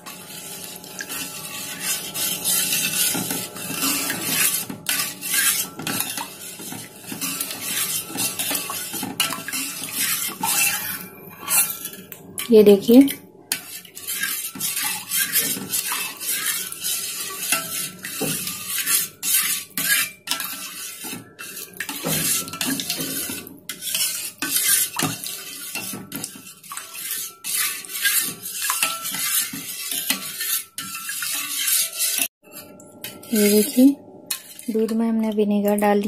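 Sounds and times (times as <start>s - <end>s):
spoon scraping metal pot: 0.0s - 35.9s.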